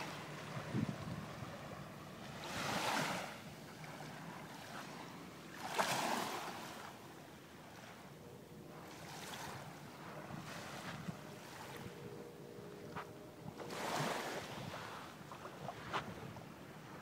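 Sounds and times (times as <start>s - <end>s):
small waves breaking on sand: 0.0s - 8.0s, 8.8s - 12.0s, 13.5s - 17.0s.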